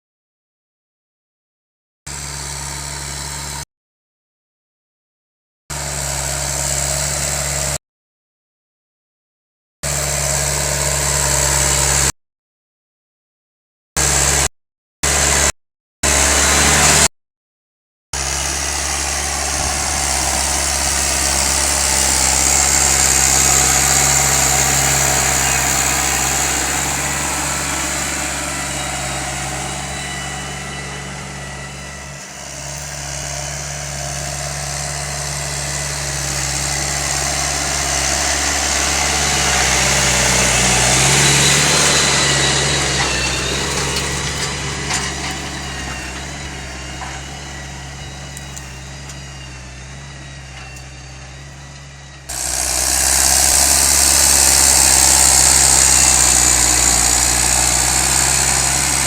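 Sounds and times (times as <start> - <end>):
tractor diesel engine working: 2.1 - 3.6, 5.7 - 7.8, 9.8 - 12.1, 14.0 - 17.1, 18.2 - 59.0.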